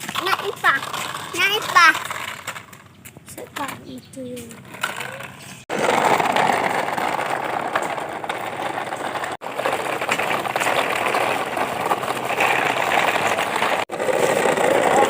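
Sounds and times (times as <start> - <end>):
toy trucks rolling and rattling: 0.0 - 15.0.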